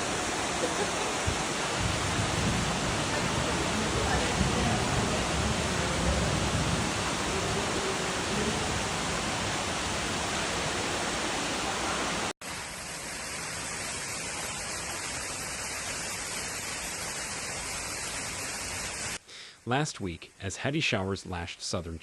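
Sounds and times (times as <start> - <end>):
heavy rain pouring: 0.0 - 19.2.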